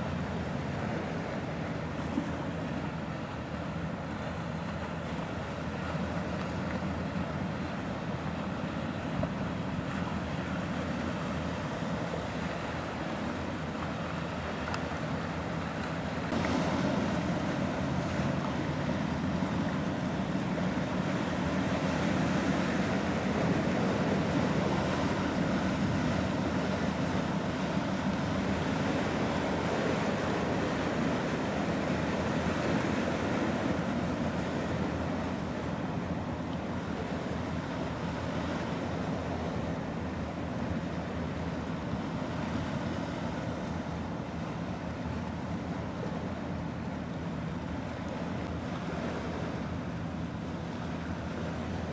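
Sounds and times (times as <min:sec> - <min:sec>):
waves washing against seawall: 0:00.0 - 0:51.9.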